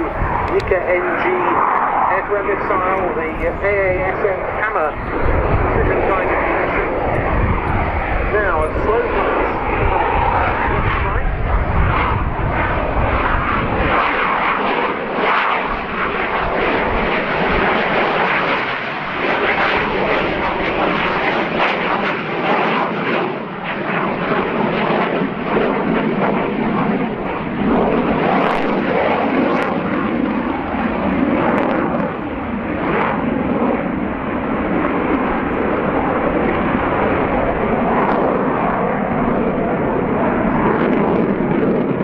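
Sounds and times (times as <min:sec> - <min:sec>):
fighter jet engines rushing: 0:00.0 - 0:42.0.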